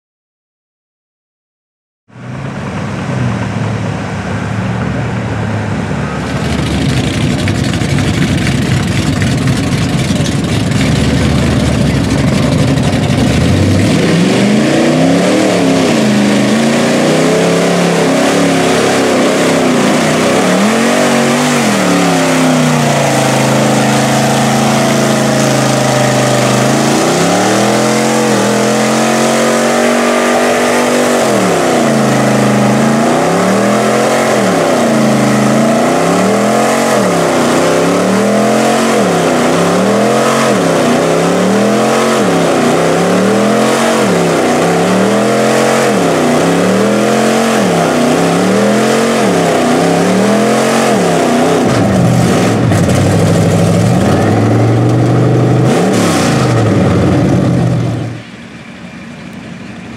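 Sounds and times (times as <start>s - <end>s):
truck engine revving hard: 2.2s - 58.4s
tires throwing mud: 2.3s - 58.8s.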